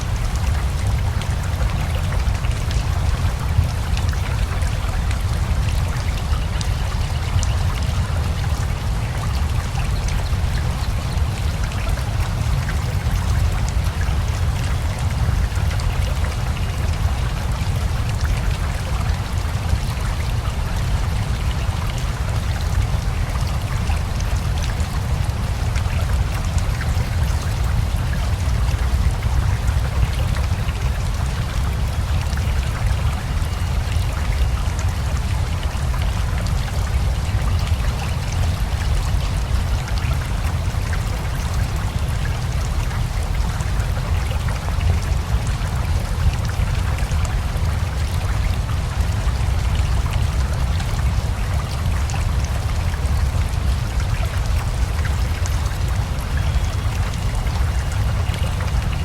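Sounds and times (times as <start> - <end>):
river flowing: 0.0 - 59.0
steady rain: 0.0 - 59.0.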